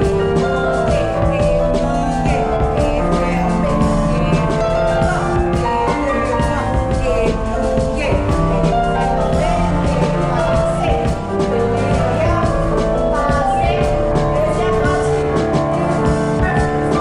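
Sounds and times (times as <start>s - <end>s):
song with beat and singing: 0.0s - 17.0s.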